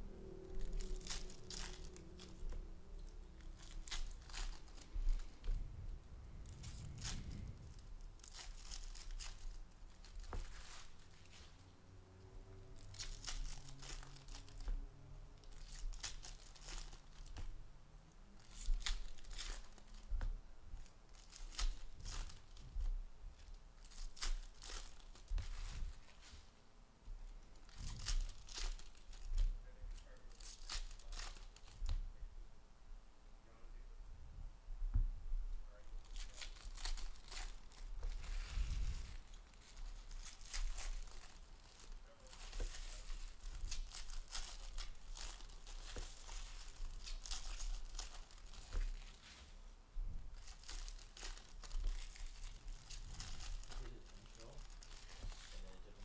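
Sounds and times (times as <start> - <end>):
wrappers tearing and crinkling: 0.2 - 5.6, 6.4 - 11.7, 12.7 - 17.6, 18.4 - 20.2, 20.8 - 26.5, 27.5 - 32.0, 35.8 - 49.4, 50.3 - 56.0.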